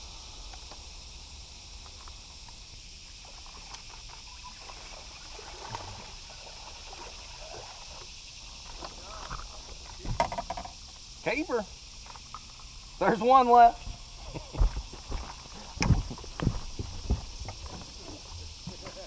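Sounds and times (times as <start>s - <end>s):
insect chorus buzzing: 0.0s - 19.0s.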